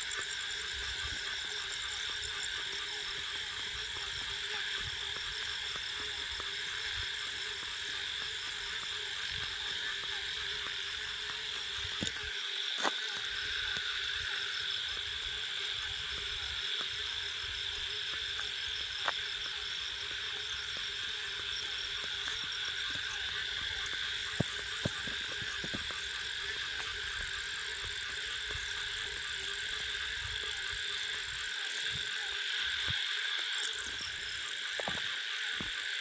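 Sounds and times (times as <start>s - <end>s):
crickets and frogs trilling: 0.0s - 36.0s.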